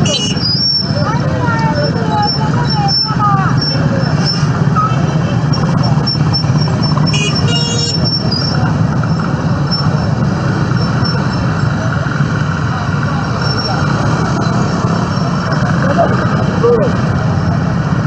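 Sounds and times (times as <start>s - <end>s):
road traffic engine rumble: 0.0s - 18.0s.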